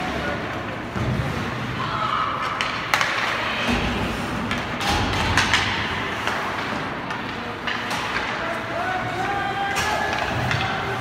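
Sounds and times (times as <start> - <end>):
hockey sticks and puck clacking: 0.0 - 11.0
rink background noise: 0.0 - 11.0.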